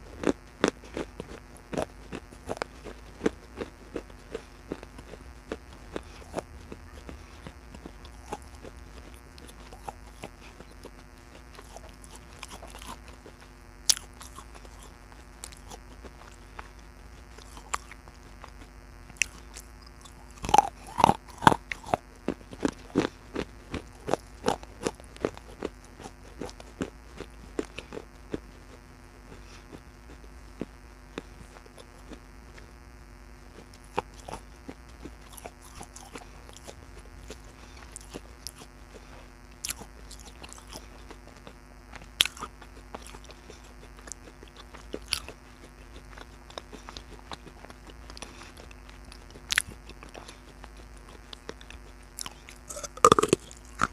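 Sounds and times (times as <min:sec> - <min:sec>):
biting and chewing clay pieces: 0:00.0 - 0:53.9.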